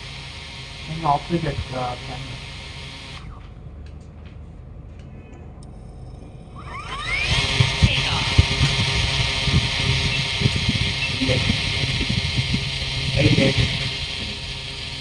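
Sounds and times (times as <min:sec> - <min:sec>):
drone motors whirring: 0:00.0 - 0:15.0.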